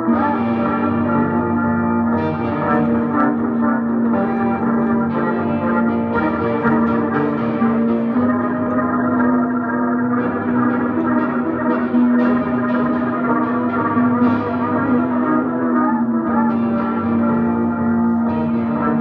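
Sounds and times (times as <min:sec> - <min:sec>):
bowed double bass drone: 0:00.0 - 0:19.0.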